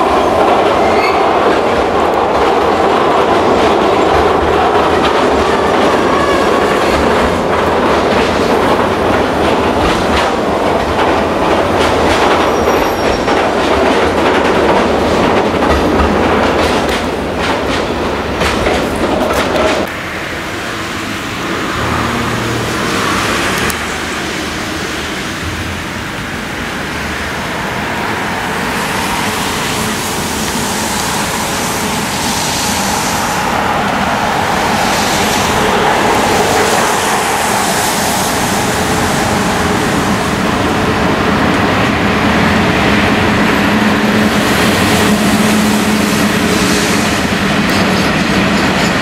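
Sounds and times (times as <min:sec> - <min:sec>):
electric locomotive hauling train: 0:00.0 - 0:49.0
wheels rumbling on rails: 0:00.0 - 0:49.0.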